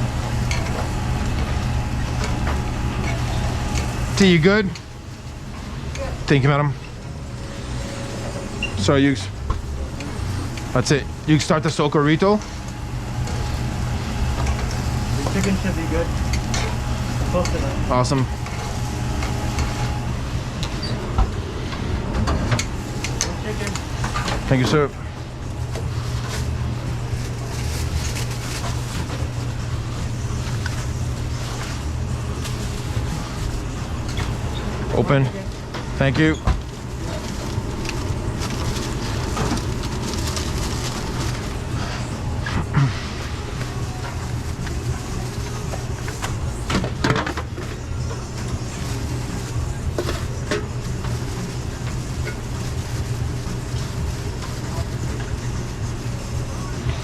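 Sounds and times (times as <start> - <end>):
low kitchen drone: 0.0 - 57.0
low machine hum: 0.0 - 57.0.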